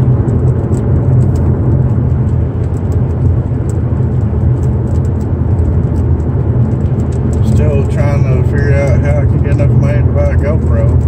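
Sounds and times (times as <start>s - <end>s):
car engine: 0.0s - 11.0s
road and tyre noise: 0.0s - 11.0s.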